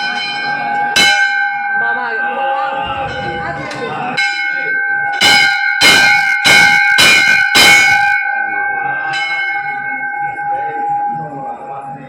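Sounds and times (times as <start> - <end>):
temple bell ringing: 0.0 - 12.0.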